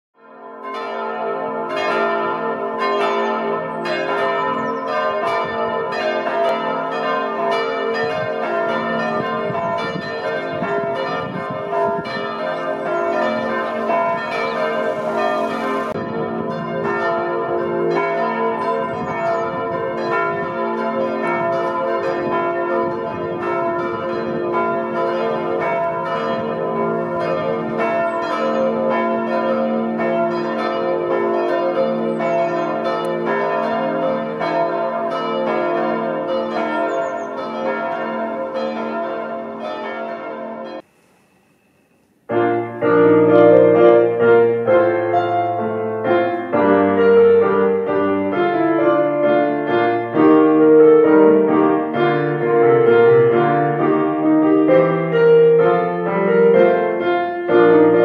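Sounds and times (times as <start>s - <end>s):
church bells pealing: 0.2s - 41.3s, 42.3s - 58.0s.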